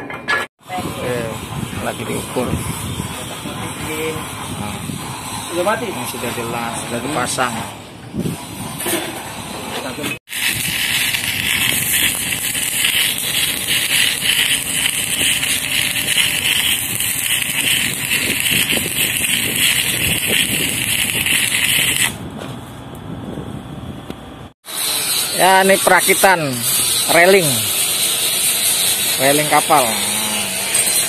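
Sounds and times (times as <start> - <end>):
welding arc crackling and sizzling: 0.6 - 7.6, 10.3 - 22.2, 24.7 - 31.0.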